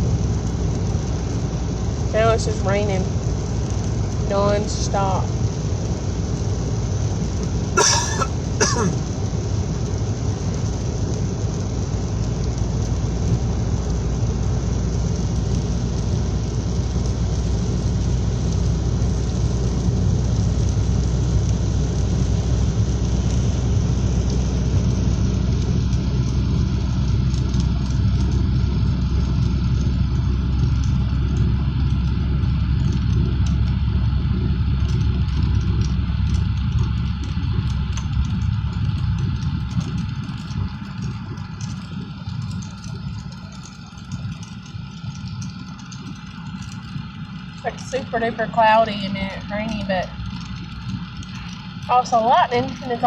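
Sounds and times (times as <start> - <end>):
low rumble: 0.0 - 53.0
steady rain: 0.0 - 53.0.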